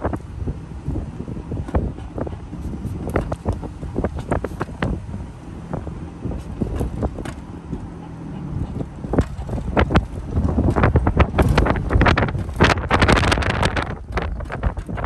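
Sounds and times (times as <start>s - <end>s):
trailer rumbling on dirt road: 0.0s - 15.0s
wind buffeting microphone: 0.0s - 15.0s.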